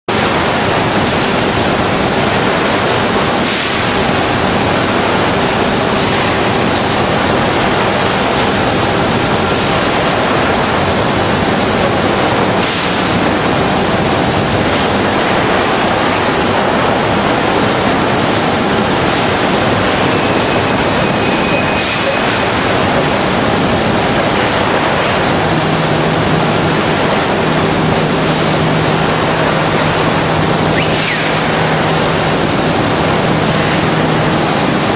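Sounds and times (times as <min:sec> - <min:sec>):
loud steady rushing noise: 0:00.0 - 0:34.9.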